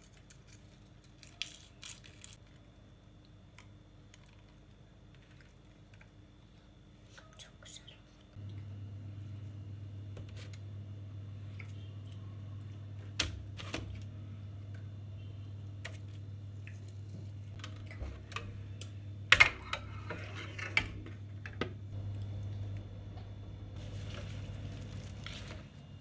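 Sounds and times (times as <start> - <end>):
steady low hum: 2.4 - 26.0.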